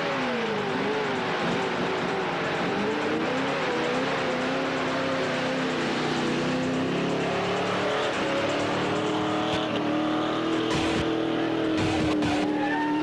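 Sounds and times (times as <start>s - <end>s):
engine straining at high revs: 0.0s - 13.0s.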